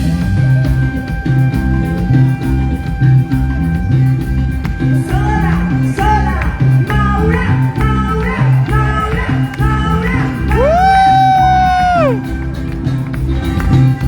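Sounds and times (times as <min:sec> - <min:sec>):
bouncing bass line: 0:00.0 - 0:14.0
lead melody: 0:00.0 - 0:14.0
live band dance music: 0:00.0 - 0:14.0.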